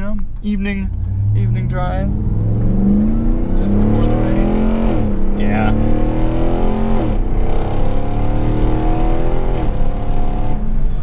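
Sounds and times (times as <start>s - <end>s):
truck engine accelerating hard: 0.9s - 11.0s.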